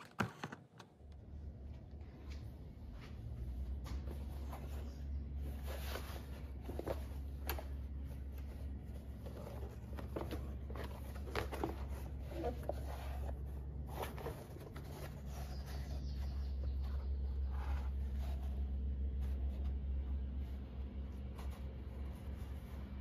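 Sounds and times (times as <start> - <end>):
steady low hum: 0.8 - 23.0
leather rustling and rubbing: 4.0 - 23.0.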